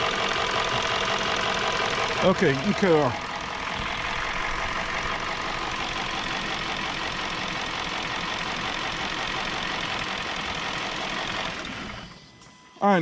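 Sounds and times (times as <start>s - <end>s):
car engine idling with misfire: 0.0s - 12.3s.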